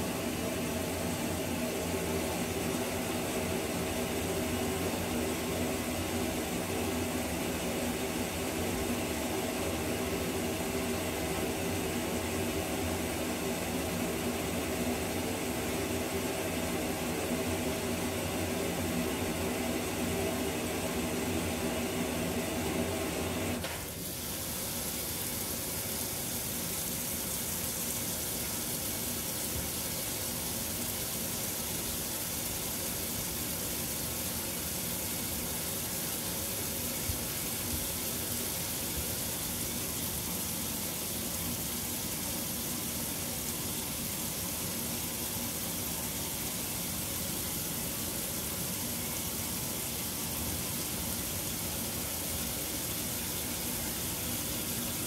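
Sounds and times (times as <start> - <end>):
water pouring into washing machine: 0.0 - 55.0.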